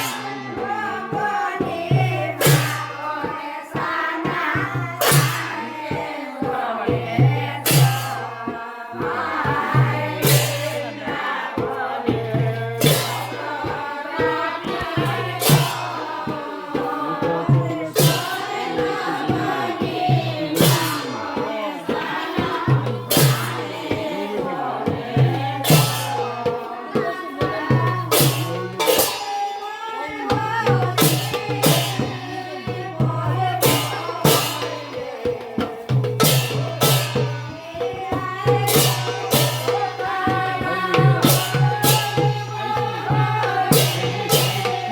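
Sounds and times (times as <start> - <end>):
group of voices singing folk song: 0.0 - 44.9
percussion: 0.0 - 44.9.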